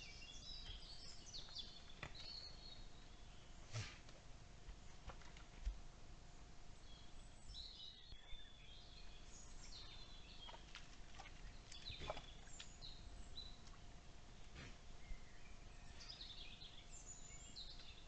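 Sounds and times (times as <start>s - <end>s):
small birds chirping: 0.0s - 3.7s, 6.8s - 18.0s.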